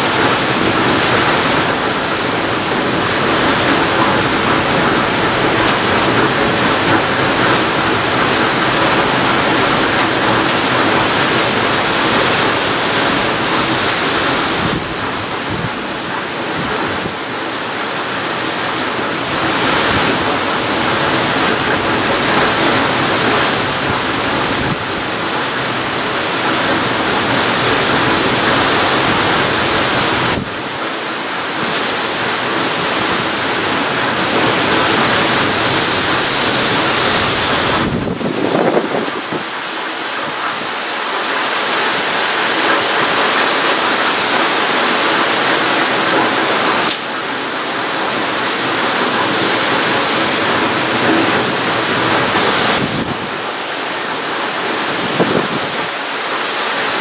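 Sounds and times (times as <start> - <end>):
heavy wind-driven rain: 0.0 - 57.0
strong wind: 0.0 - 57.0.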